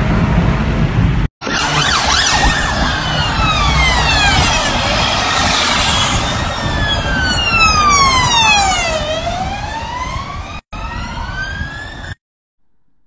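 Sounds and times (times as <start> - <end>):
emergency vehicle siren wailing: 1.4 - 12.2.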